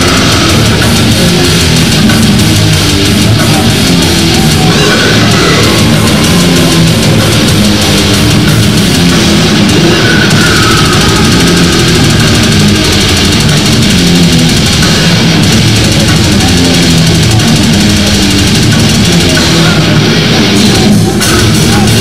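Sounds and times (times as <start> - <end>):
metal band playing live: 0.0 - 22.0.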